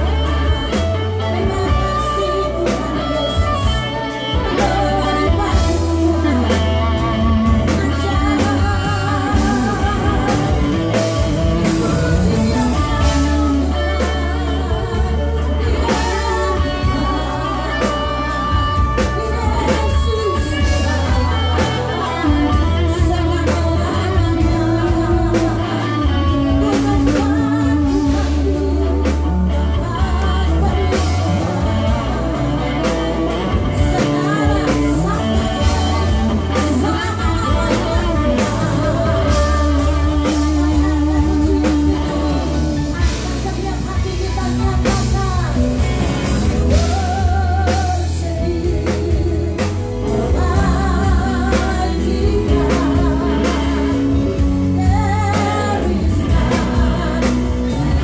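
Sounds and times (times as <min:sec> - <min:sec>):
bass guitar: 0:00.0 - 0:58.0
drum kit: 0:00.0 - 0:58.0
electric guitar: 0:00.0 - 0:58.0
keyboards: 0:00.0 - 0:58.0
people singing into microphones: 0:00.0 - 0:58.0.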